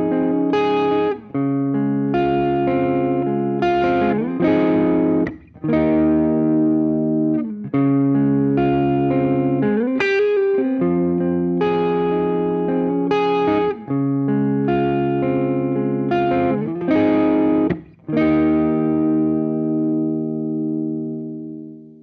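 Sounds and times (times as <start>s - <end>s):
overdriven electric guitar: 0.0s - 22.0s.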